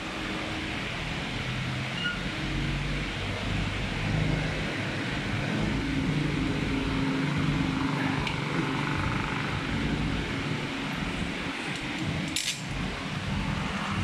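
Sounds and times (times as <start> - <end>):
vehicle engine running: 2.8 - 14.0.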